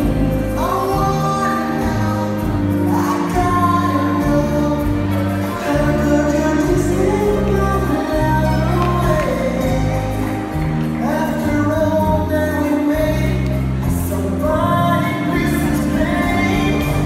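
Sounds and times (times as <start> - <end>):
slow rumba music with singing: 0.0 - 17.0.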